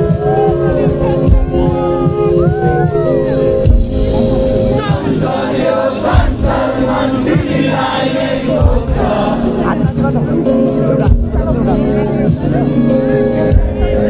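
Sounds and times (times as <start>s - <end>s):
drum beat: 0.0s - 14.0s
live band music over pa: 0.0s - 14.0s.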